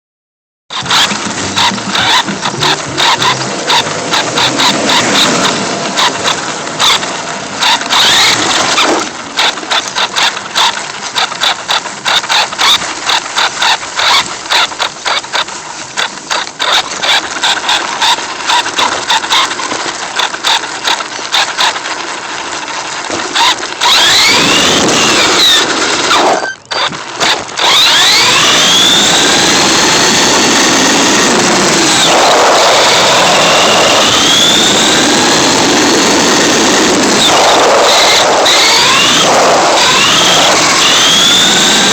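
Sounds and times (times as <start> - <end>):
crackles and stop-start noise: 0.7 - 41.9
toy truck motor whine: 0.7 - 41.9.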